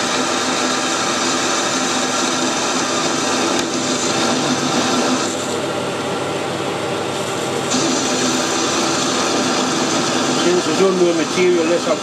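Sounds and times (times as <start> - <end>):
metal lathe cutting metal bar: 0.0 - 6.1, 7.2 - 12.0.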